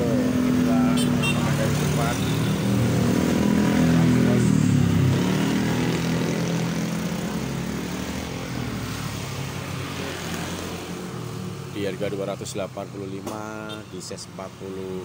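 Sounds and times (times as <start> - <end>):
passing vehicle engine: 0.0 - 12.2.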